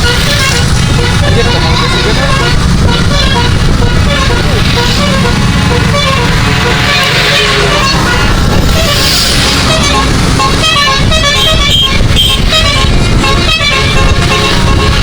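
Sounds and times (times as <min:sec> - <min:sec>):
low engine rumble: 0:00.0 - 0:15.0
musical bus air horn: 0:00.0 - 0:15.0.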